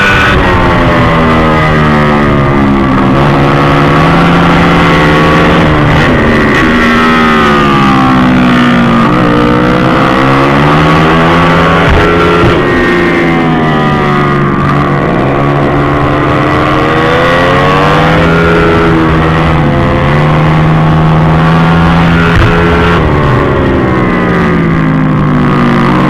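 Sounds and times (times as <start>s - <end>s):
scooter engine revving: 0.0s - 26.0s.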